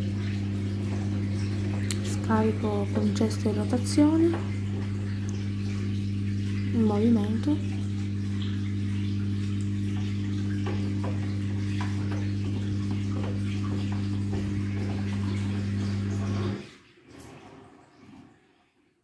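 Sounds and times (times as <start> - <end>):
drain pump humming: 0.0 - 18.4
water sloshing and splashing: 0.0 - 18.8.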